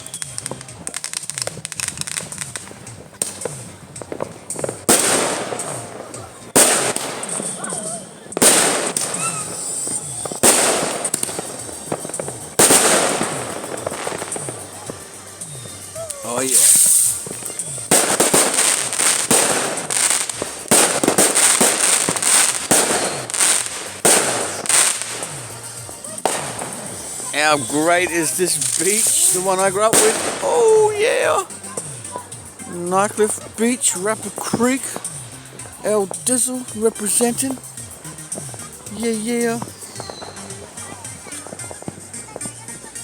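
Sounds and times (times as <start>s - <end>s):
loud firework bangs: 0.0s - 32.7s, 37.2s - 42.6s
firecrackers crackling: 0.0s - 43.0s.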